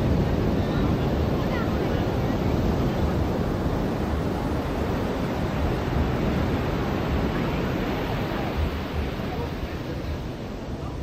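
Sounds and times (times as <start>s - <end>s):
ocean waves breaking: 0.0s - 11.0s.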